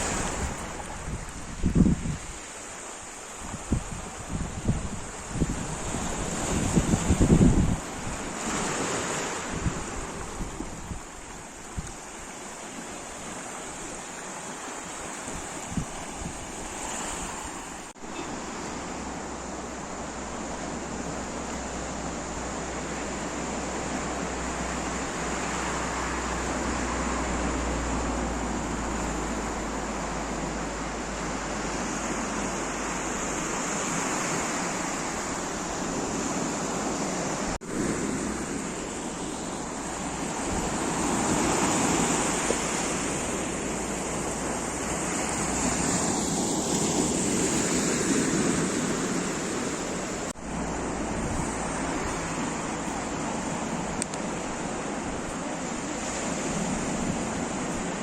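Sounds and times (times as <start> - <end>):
waves rushing and washing in: 0.0 - 58.0.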